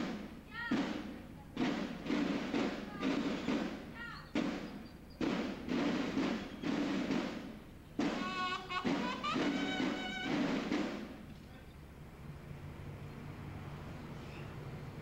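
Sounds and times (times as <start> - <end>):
drums beating: 0.0 - 15.0
bugles sounding held notes: 0.1 - 12.1.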